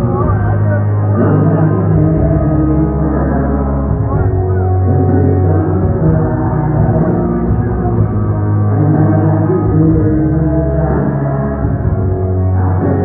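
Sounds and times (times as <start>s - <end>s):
live rock band: 0.0s - 13.0s.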